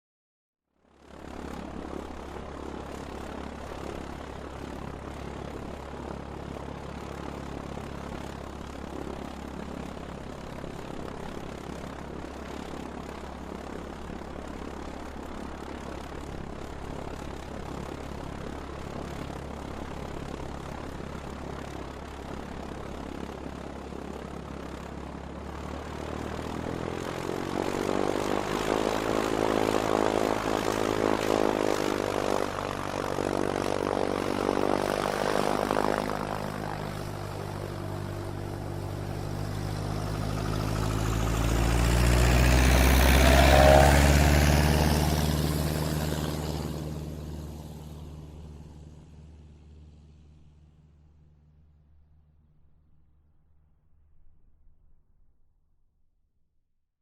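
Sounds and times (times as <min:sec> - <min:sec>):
propeller plane engine revving up: 0:00.8 - 0:52.0
propeller plane engine idling: 0:00.8 - 0:53.2.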